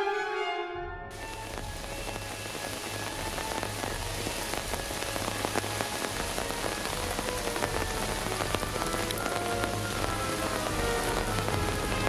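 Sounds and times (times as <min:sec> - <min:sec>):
heavy rain hissing: 0:01.1 - 0:12.0
raindrops ticking close by: 0:01.1 - 0:12.0.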